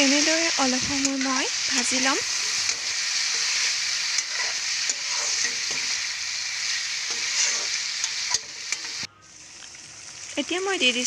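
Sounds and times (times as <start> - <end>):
spatula scraping pan: 0.0 - 9.1
food sizzling in hot oil: 0.0 - 11.0.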